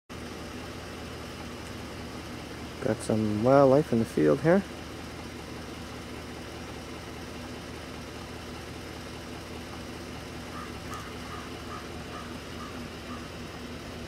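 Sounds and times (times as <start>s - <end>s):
car engine idling: 0.1s - 14.0s.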